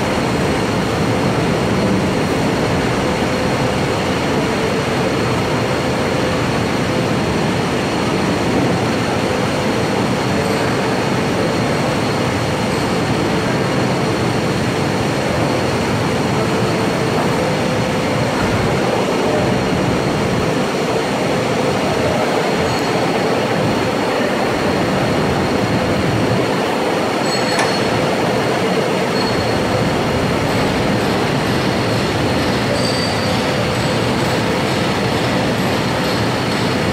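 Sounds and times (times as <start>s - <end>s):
polishing machine humming and whining: 0.0s - 36.9s.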